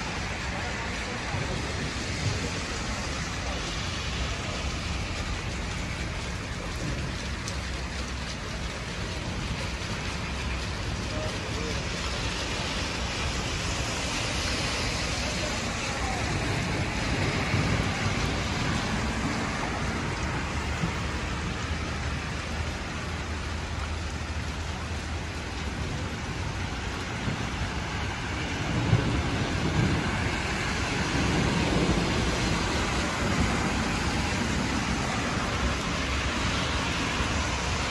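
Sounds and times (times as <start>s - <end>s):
heavy rain on pavement: 0.0s - 37.9s.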